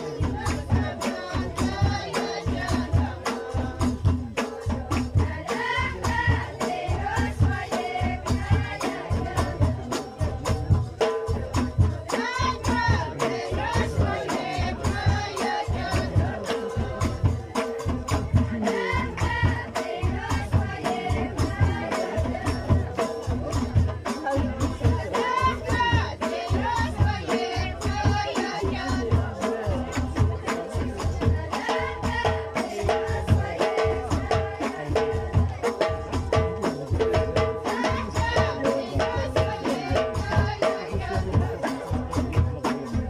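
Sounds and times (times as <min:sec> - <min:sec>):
frame drums beating: 0:00.0 - 0:43.0
group singing: 0:00.0 - 0:43.0.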